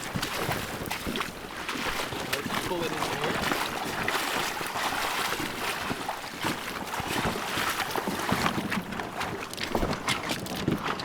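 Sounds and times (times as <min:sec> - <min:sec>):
water splashing around canoe: 0:00.0 - 0:11.0.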